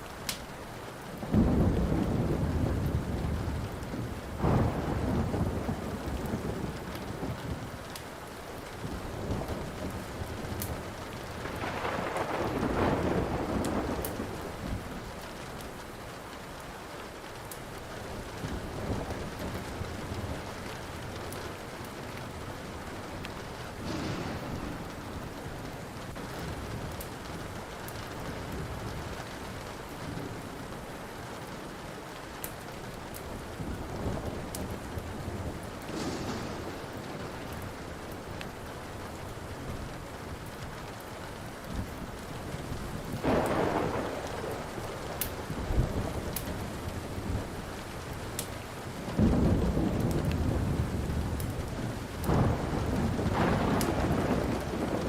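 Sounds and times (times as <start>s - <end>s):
steady rain: 0.0s - 55.0s
wood fire crackling: 0.0s - 55.0s
low thunder rumbling: 1.2s - 32.0s, 32.6s - 55.0s.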